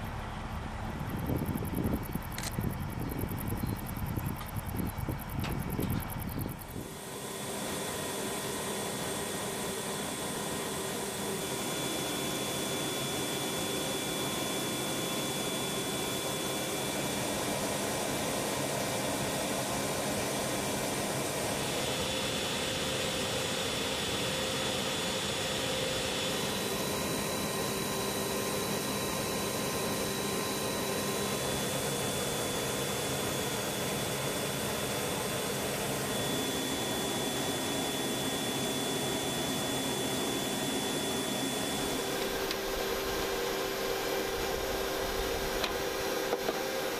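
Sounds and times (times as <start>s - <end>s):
gas turbine whine: 0.0s - 46.9s.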